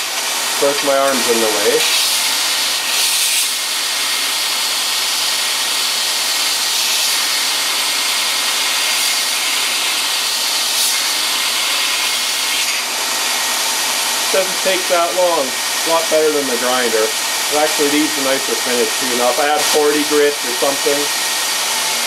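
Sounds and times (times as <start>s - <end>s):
belt grinder grinding steel: 0.0s - 22.0s.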